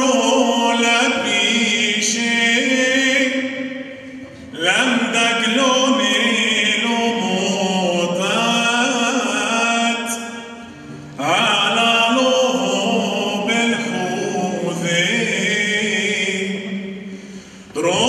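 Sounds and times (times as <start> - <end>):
man singing into a microphone: 0.0 - 18.0.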